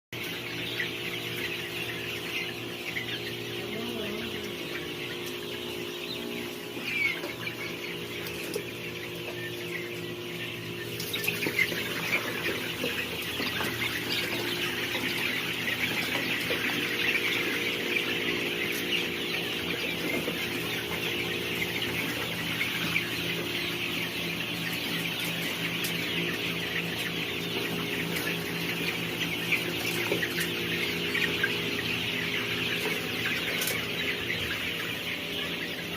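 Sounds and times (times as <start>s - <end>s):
chickens clucking and chirping: 0.2s - 35.9s.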